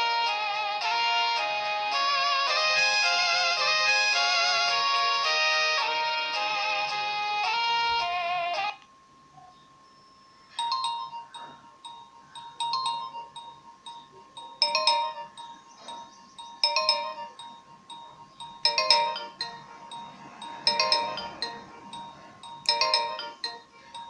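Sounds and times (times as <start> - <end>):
phone ringtone chime: 0.0 - 8.8, 9.8 - 24.0.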